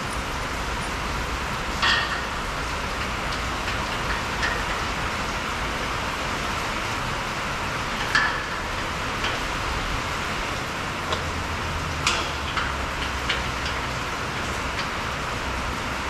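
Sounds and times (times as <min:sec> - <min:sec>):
rain on a metal roof: 0:00.0 - 0:16.0.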